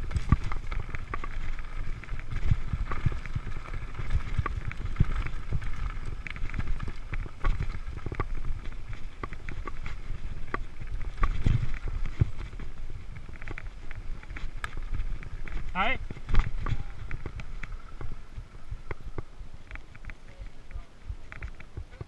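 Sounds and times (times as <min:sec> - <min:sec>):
bike rattling: 0:00.0 - 0:22.0
bike tyres rolling on dirt: 0:00.0 - 0:22.0
knocks and clicks over bumps: 0:00.0 - 0:22.0.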